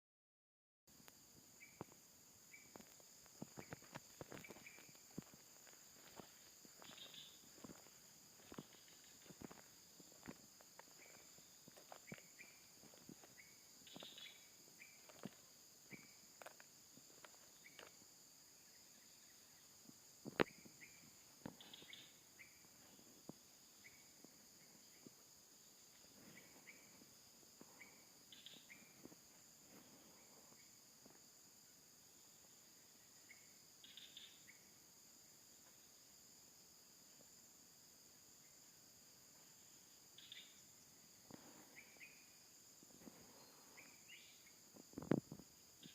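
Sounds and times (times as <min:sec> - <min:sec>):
crickets chirping: 0:00.9 - 0:45.9.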